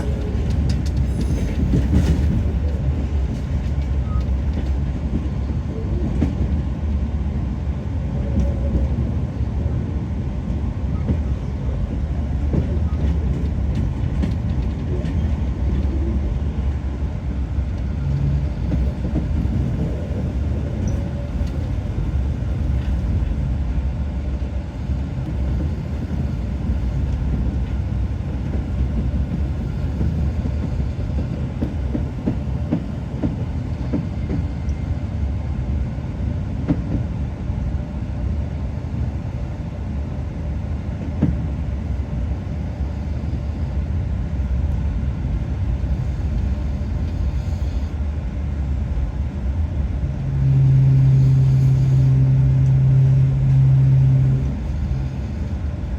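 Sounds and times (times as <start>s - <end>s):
train rumbling on track: 0.0s - 55.9s.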